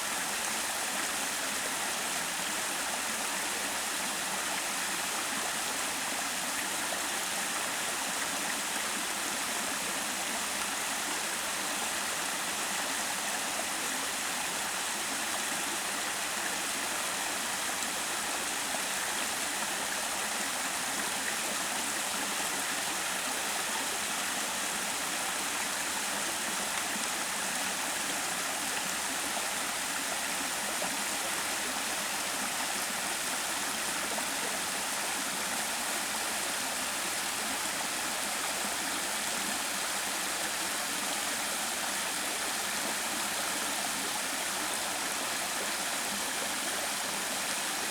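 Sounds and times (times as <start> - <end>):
stream rushing water: 0.0 - 47.9.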